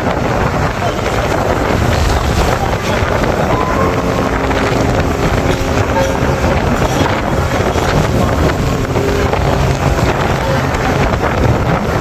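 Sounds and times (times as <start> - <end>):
ferry engine: 0.0 - 12.0
sea water rushing against hull: 0.0 - 12.0
wind buffeting microphone: 0.0 - 12.0.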